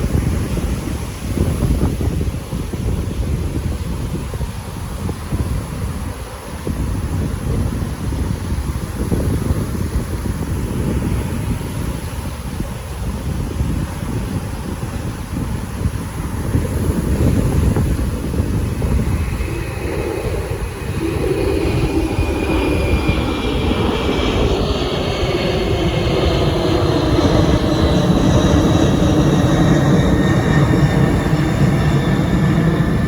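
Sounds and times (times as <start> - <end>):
jet airliner rumble: 0.0 - 33.0
jet engine whines: 0.0 - 33.0.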